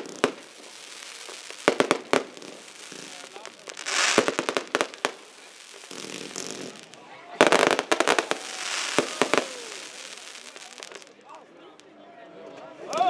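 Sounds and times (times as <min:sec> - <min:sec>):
fireworks bursting: 0:00.0 - 0:11.9
crackling firework stars: 0:00.0 - 0:12.0.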